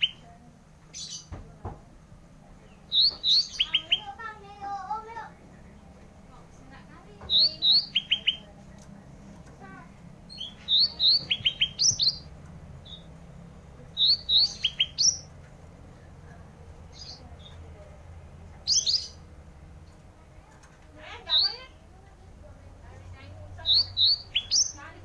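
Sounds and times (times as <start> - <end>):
faint low hum: 0.0 - 25.0
songbird singing: 0.0 - 25.0.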